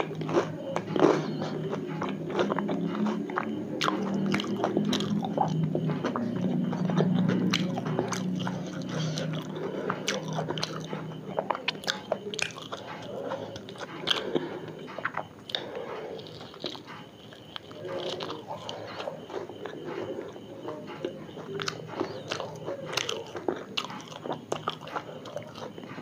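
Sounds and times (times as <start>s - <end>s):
chewing fried food: 0.0s - 26.0s.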